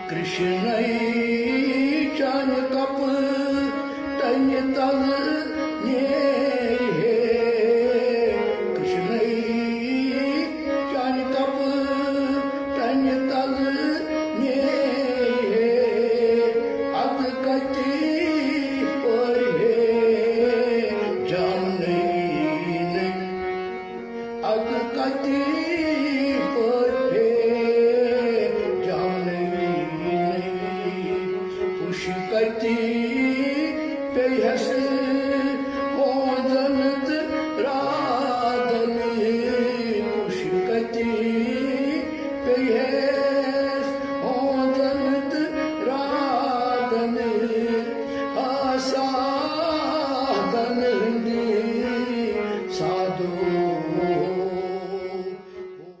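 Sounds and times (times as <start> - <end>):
instrumental accompaniment: 0.0 - 56.0
person singing devotional song: 0.0 - 56.0.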